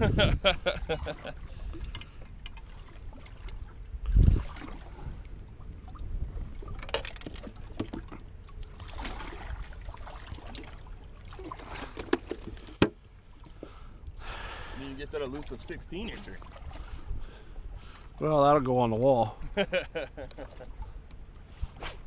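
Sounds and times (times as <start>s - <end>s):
wind and water rumble: 0.0s - 22.0s.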